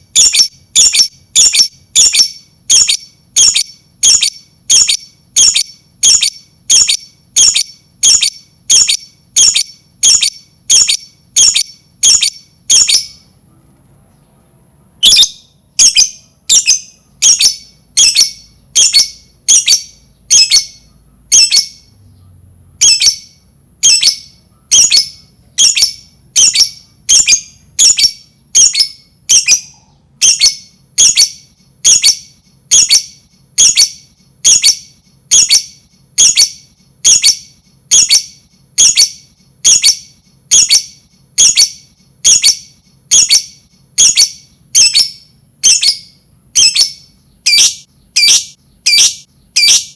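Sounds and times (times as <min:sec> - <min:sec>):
lovebird squawking: 0:00.2 - 0:13.3, 0:15.0 - 0:21.9, 0:22.8 - 0:49.9.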